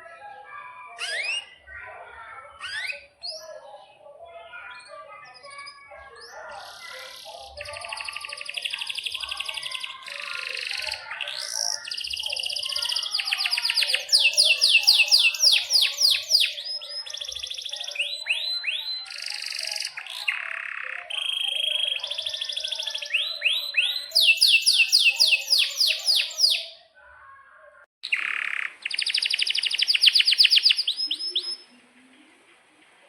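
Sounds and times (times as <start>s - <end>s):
canary singing: 1.0s - 1.7s, 2.5s - 26.9s, 28.0s - 31.8s.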